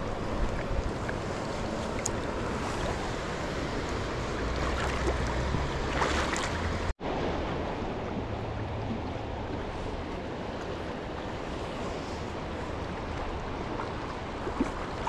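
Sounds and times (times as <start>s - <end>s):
creek water rushing over stones: 0.0s - 15.0s
wind rumbling on microphone: 0.0s - 15.0s.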